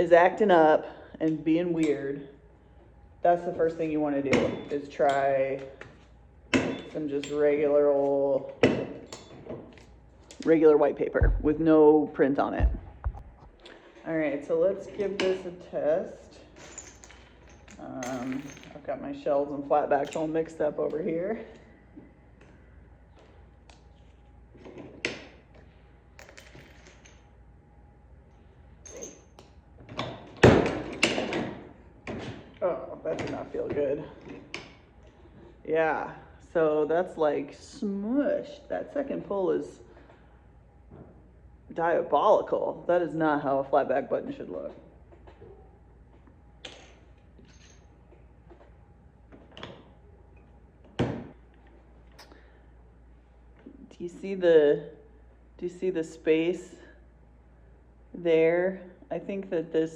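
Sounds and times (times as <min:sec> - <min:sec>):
low room hum: 0:00.0 - 0:59.9.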